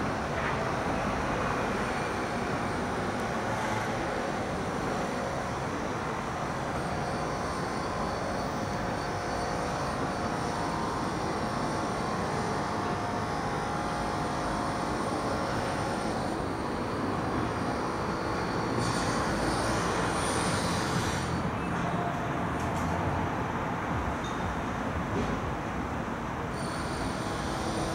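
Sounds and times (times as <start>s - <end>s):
hum of distant vehicles: 0.0s - 27.9s.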